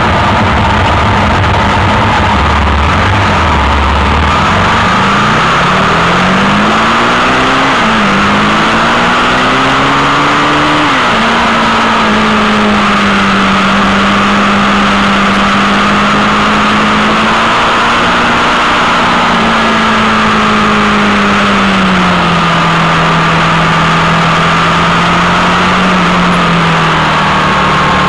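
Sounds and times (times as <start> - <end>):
motorcycle engine revving: 0.0 - 28.0
wind and road noise: 0.0 - 28.0.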